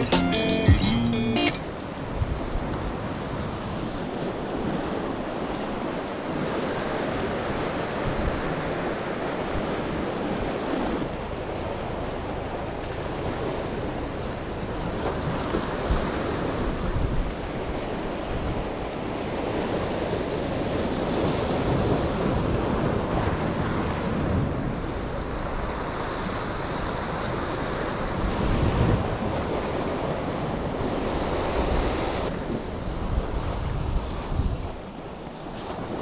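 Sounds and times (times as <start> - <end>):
wind rumbling on microphone: 1.9 - 36.0.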